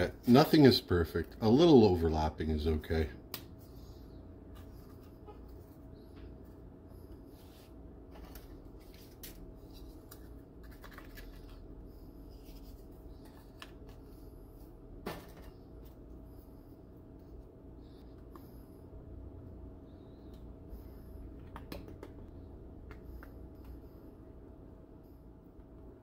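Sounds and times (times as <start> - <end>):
faint hum: 0.0 - 26.0.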